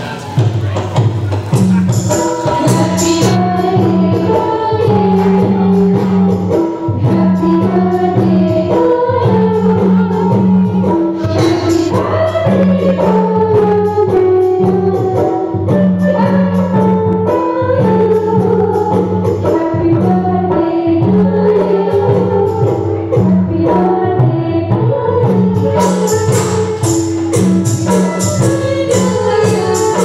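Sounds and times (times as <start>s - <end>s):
percussion beat: 0.0s - 24.4s, 25.2s - 30.0s
keyboard band: 0.0s - 30.0s
women singing into microphones: 1.7s - 30.0s.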